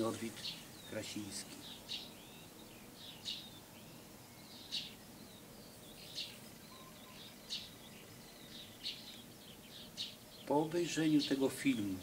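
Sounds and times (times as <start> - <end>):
background hiss: 0.0 - 12.0
faint bird twittering: 0.0 - 12.0
songbird chirping: 0.0 - 12.0.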